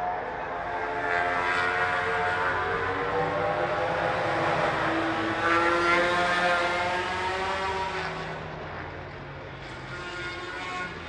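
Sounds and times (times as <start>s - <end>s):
racing motorcycles passing by: 0.0s - 9.0s.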